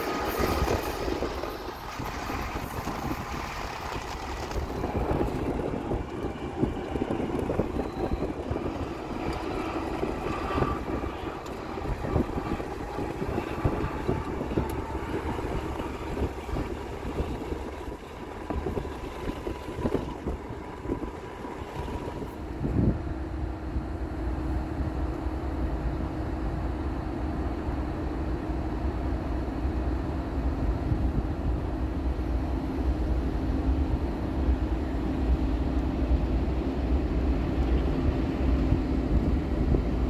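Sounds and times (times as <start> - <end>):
car road and wind noise: 0.0 - 40.0
freight train rumble: 0.0 - 40.0.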